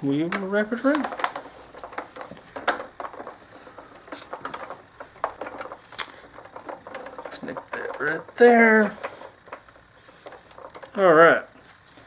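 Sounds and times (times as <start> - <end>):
plastic parts clicking and tapping: 0.2 - 11.0.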